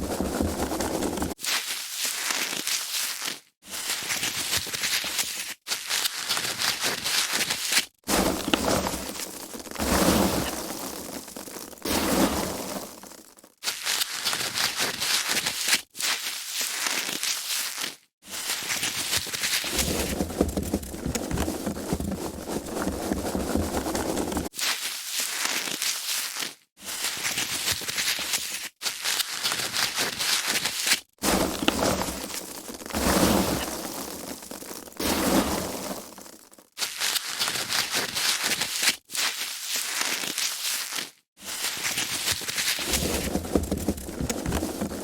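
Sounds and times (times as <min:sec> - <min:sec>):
foam packaging crinkling: 0:00.0 - 0:45.0.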